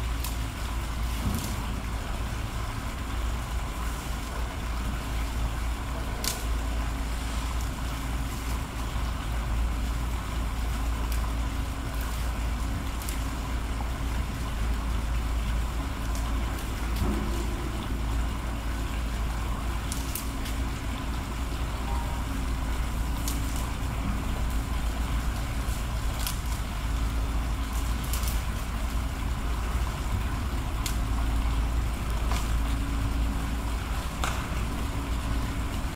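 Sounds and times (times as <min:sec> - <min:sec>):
faint on-and-off hum: 0:00.0 - 0:35.9.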